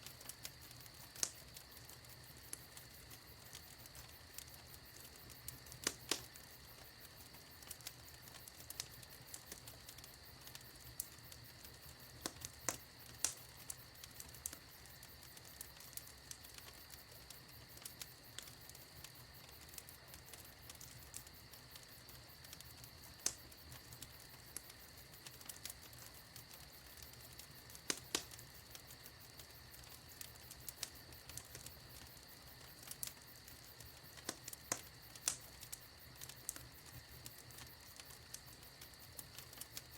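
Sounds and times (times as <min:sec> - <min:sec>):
fire hiss: 0:00.0 - 0:39.9
wood fire crackling: 0:00.0 - 0:39.9.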